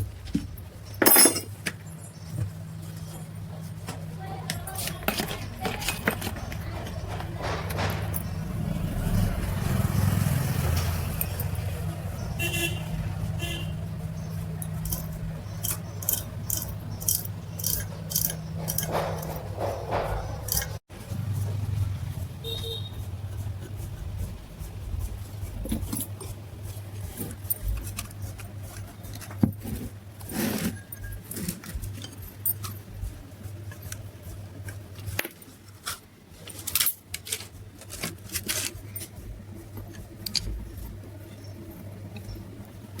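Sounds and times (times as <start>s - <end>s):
metal parts and tools clinking: 0.0s - 12.4s, 14.3s - 20.8s, 25.5s - 34.0s, 34.7s - 42.4s.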